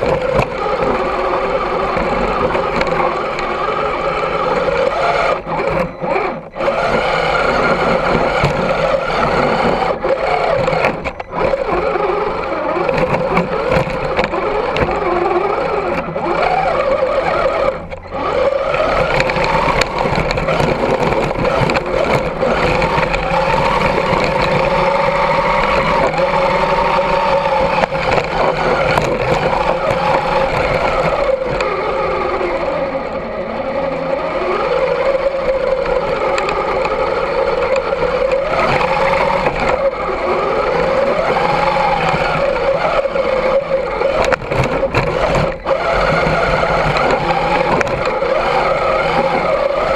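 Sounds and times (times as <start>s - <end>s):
electric motor whining: 0.0s - 49.9s.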